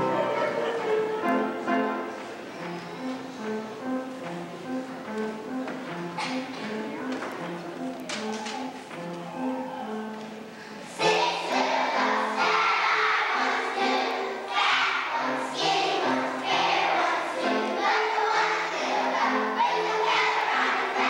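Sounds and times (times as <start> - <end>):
children's choir singing: 0.0 - 21.0
instrumental accompaniment: 0.0 - 21.0.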